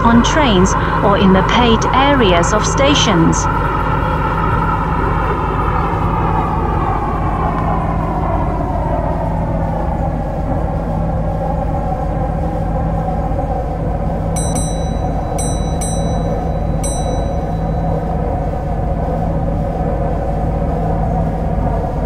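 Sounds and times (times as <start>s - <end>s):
low hum: 0.0s - 22.0s
train running rumble: 0.0s - 22.0s
train traction motor whine: 0.0s - 22.0s.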